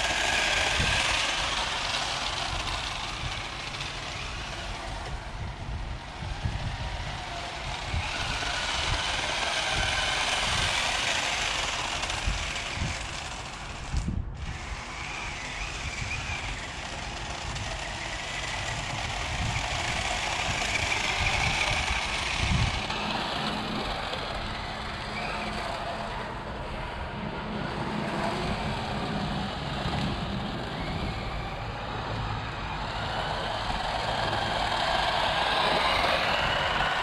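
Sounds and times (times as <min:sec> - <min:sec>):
toy car electric motor whirring: 0:00.0 - 0:37.0.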